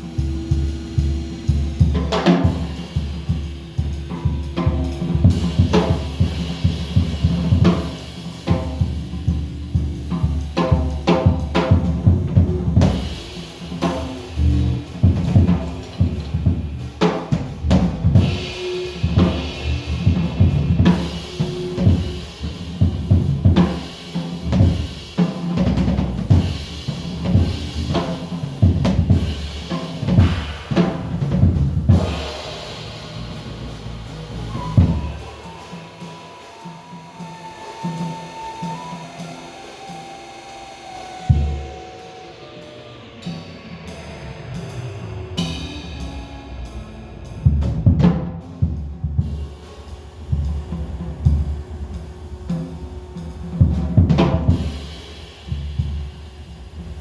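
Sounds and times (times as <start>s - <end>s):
music with drum-kit beat: 0.0s - 57.0s.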